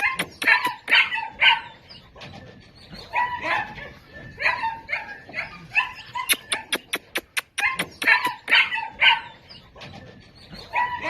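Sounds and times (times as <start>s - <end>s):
small dog yapping: 0.0s - 2.3s, 3.0s - 9.9s, 10.6s - 11.0s.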